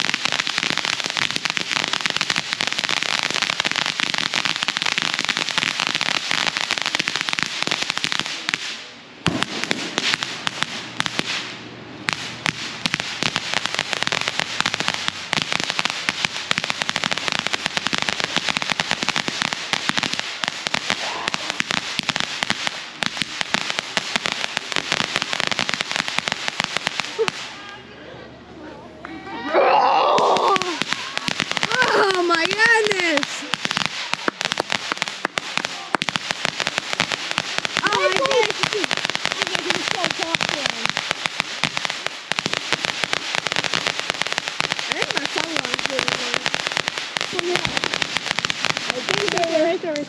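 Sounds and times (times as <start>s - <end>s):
firework fountain crackling: 0.0s - 27.9s, 29.3s - 50.0s.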